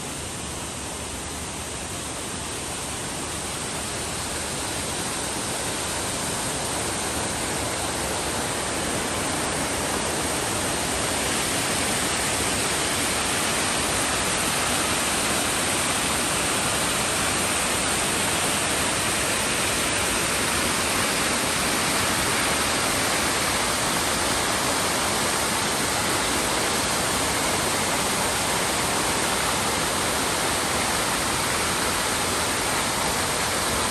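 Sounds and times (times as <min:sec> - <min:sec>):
small waterfall rushing: 0:00.0 - 0:33.9.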